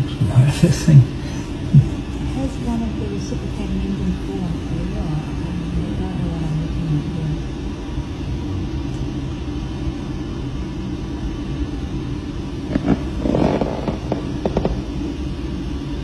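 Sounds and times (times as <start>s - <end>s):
low cabin rumble: 0.0s - 16.0s.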